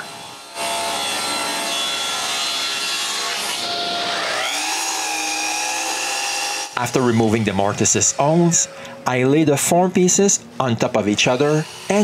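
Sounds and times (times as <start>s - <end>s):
table saw cutting wood: 0.0s - 9.4s, 10.9s - 12.0s.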